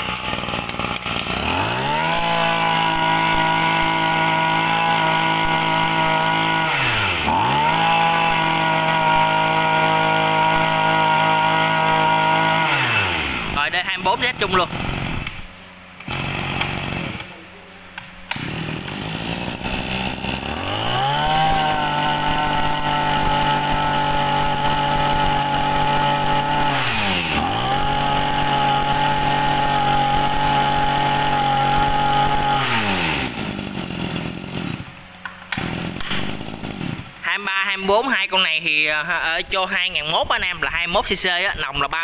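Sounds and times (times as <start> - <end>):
grass trimmer engine revving: 0.0 - 17.4, 18.2 - 37.3.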